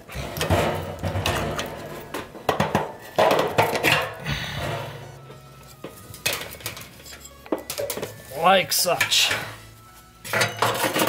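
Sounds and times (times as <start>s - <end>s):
metal clanks scrapes and rattles: 0.0s - 8.2s, 10.2s - 11.0s.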